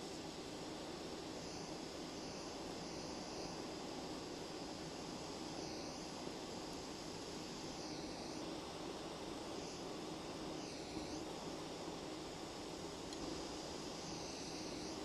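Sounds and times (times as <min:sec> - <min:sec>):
soldering torch flame hissing: 0:00.0 - 0:15.0.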